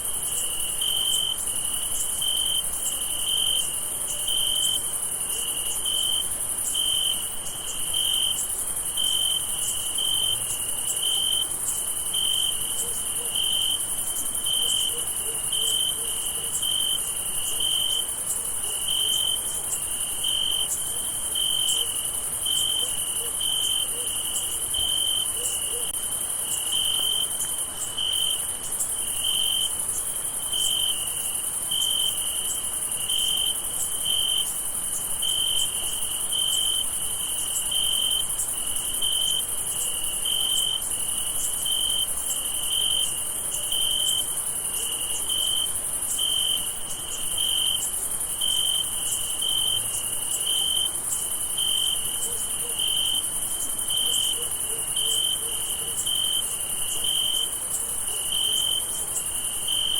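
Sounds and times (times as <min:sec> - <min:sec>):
crickets chorus: 0:00.0 - 0:59.9.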